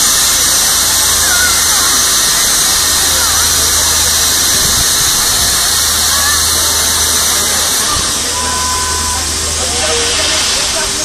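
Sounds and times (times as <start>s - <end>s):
water-mist cannon spraying: 0.0s - 11.0s.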